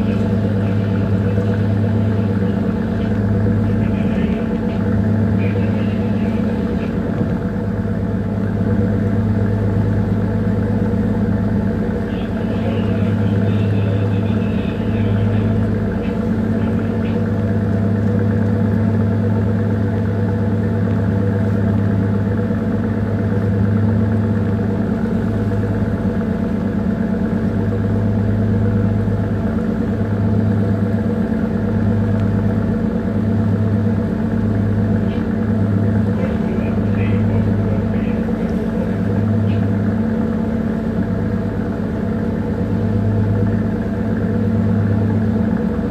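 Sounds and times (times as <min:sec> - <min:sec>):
ship engine droning: 0:00.0 - 0:45.9.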